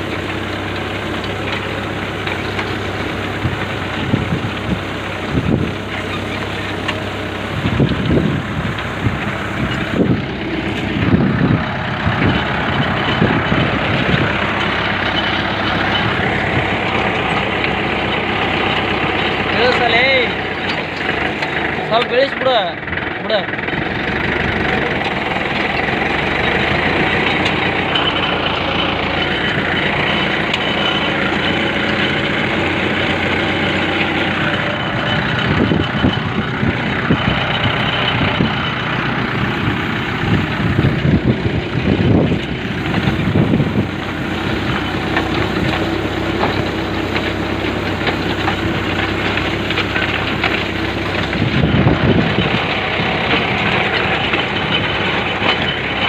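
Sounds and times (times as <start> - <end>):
seed drill metal clatter: 0.0 - 56.0
tractor engine running: 0.0 - 56.0.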